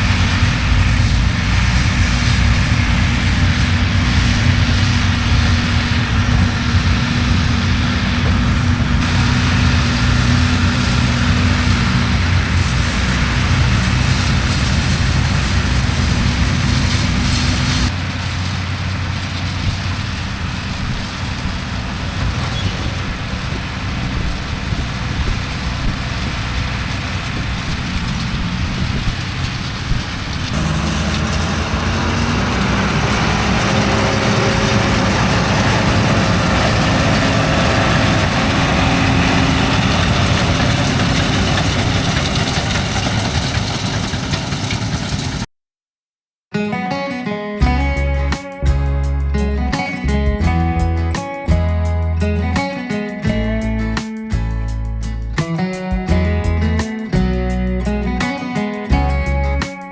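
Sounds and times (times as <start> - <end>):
tractor diesel engine running: 0.0 - 45.5, 47.6 - 59.8.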